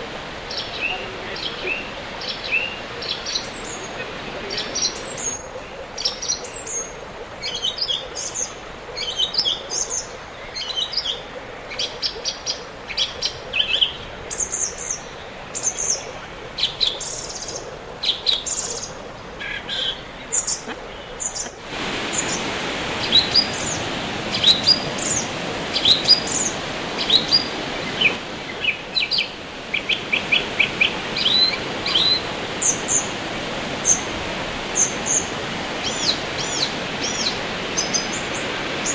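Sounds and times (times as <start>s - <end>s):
steady rushing hiss: 0.0s - 7.6s, 12.4s - 38.9s
wild birds chirping: 0.0s - 38.9s.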